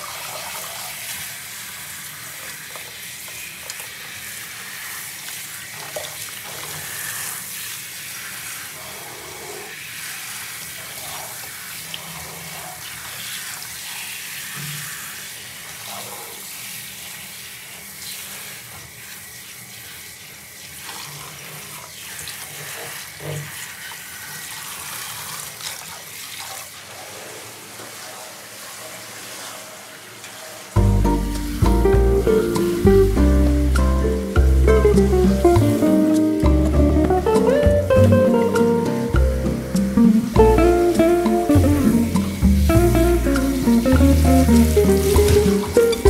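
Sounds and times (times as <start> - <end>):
shower spray splashing on dog: 0.0 - 46.0.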